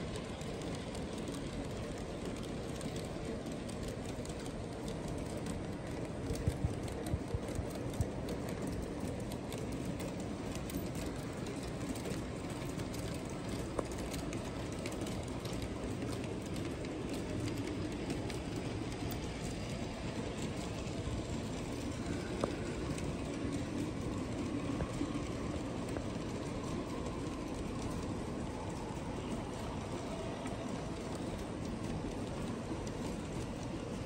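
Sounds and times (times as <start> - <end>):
model train wheels rumbling: 0.0 - 34.0
sharp clicks of train track: 0.0 - 34.0.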